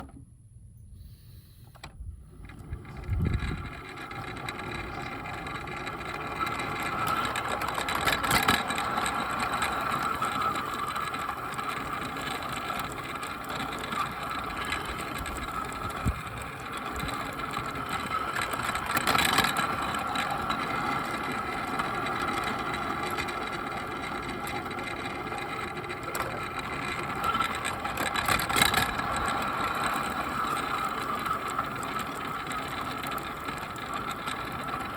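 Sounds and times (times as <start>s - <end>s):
model train motor whining: 1.0s - 34.9s
wheels on track: 1.7s - 34.9s.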